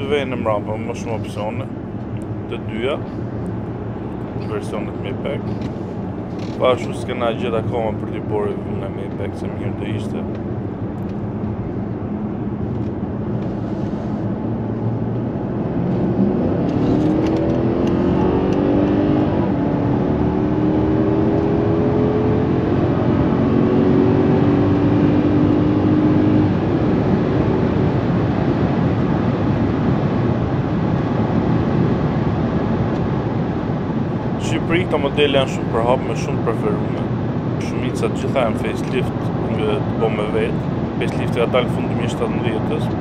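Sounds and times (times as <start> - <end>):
tyre and road noise: 0.0 - 22.0, 22.8 - 43.0
car engine accelerating: 0.0 - 30.4, 34.0 - 43.0.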